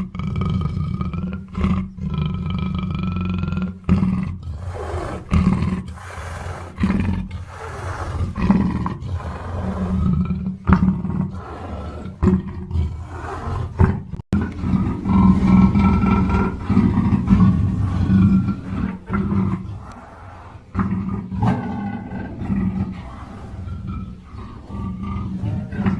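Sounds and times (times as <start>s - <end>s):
panther roaring: 0.3s - 25.9s.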